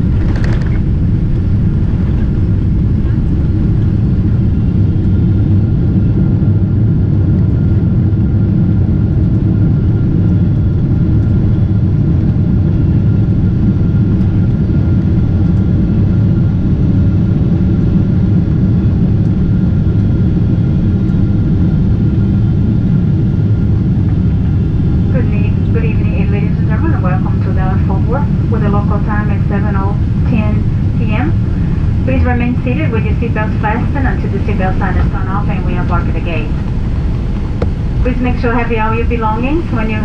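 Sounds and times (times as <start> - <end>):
faint steady whine: 0.0 - 40.0
jet engines idling rumble: 0.0 - 40.0.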